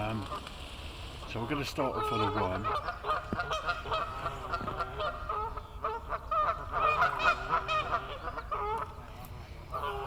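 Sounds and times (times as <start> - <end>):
geese honking: 1.2 - 9.0, 9.7 - 10.0.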